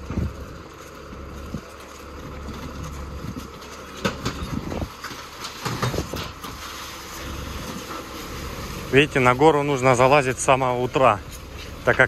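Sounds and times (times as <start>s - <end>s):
garbage truck engine humming: 0.0s - 12.0s
rubbish clattering and knocking: 0.0s - 12.0s.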